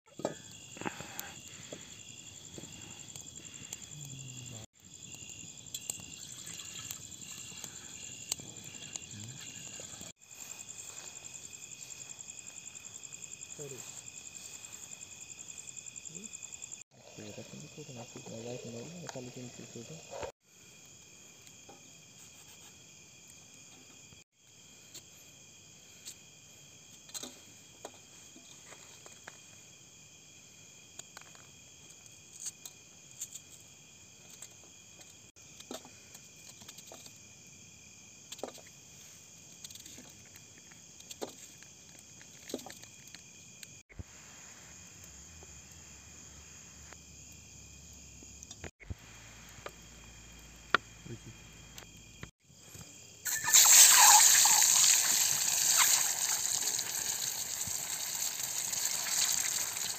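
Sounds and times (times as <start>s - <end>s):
night insects chirping: 0.1s - 59.9s.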